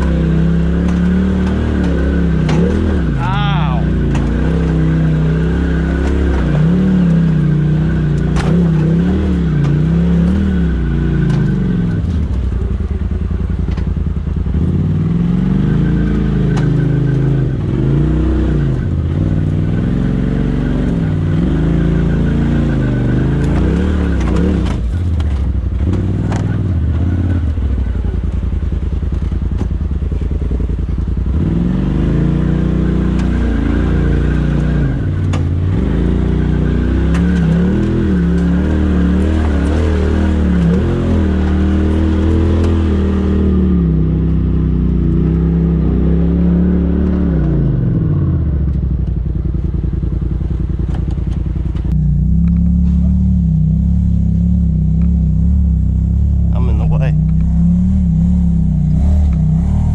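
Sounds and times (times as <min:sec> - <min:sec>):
engine revving at low speed: 0:00.0 - 0:59.9.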